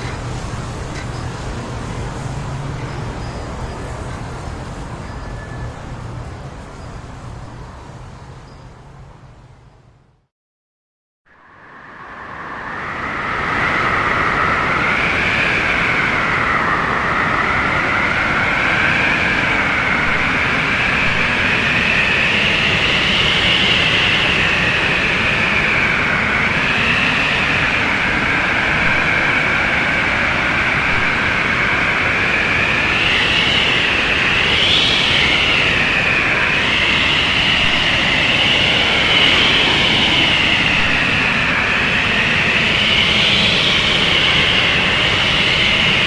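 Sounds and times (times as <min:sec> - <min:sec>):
howling wind: 0:00.0 - 0:10.3, 0:11.3 - 0:46.0.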